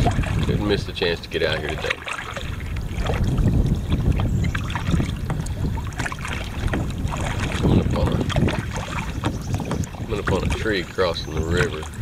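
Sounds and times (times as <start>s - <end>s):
kayak paddle splashing in water: 0.0s - 12.0s
wind noise on microphone: 0.0s - 12.0s.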